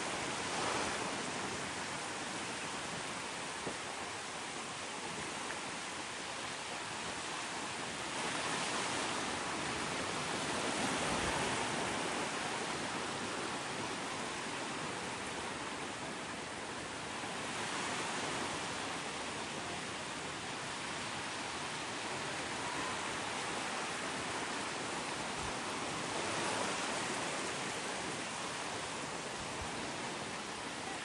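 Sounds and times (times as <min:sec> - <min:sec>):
waves washing onto a beach: 0:00.0 - 0:31.0.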